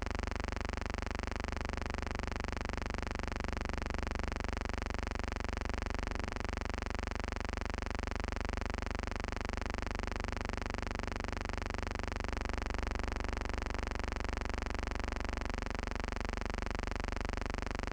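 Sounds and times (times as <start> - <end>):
steady buzzing hum: 0.0 - 8.9, 9.7 - 17.9.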